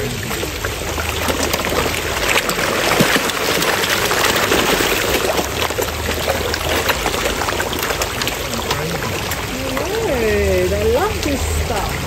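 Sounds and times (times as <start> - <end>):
fish splashing at water surface: 0.0 - 12.0.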